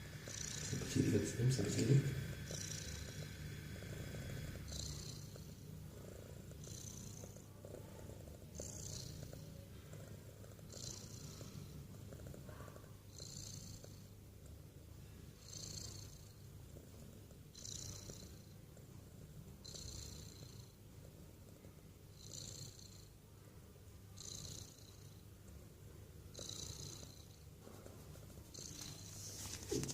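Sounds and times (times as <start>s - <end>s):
cat snoring wheeze: 0.0s - 23.4s, 24.1s - 25.2s, 26.2s - 27.9s, 28.5s - 29.9s.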